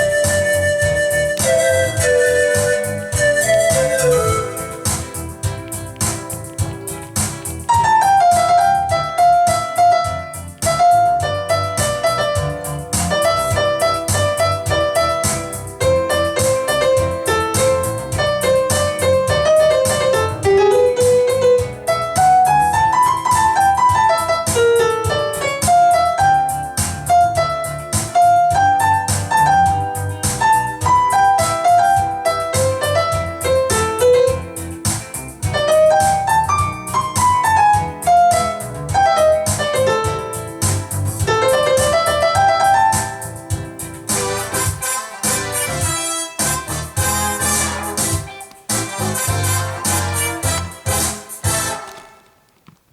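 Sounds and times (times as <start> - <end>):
piano-style keyboard music: 0.0 - 52.5.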